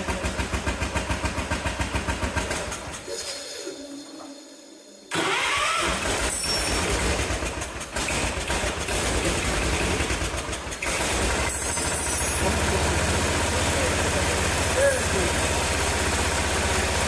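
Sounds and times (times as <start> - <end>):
tractor engine shutting off: 0.0 - 3.6, 5.1 - 17.0
tractor engine starting and running: 0.0 - 3.6, 5.1 - 17.0.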